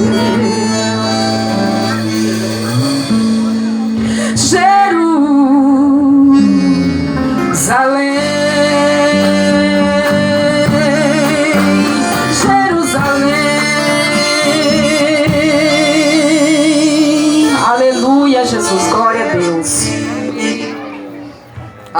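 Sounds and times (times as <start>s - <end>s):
person singing with vibrato: 0.0s - 21.5s
bass: 0.0s - 21.9s
guitar: 0.0s - 21.9s.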